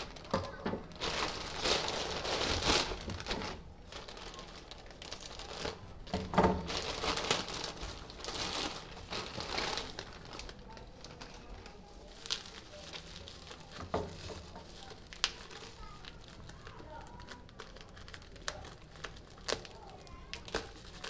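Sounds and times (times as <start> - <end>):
plastic and bubble wrap crinkling: 0.0 - 21.0.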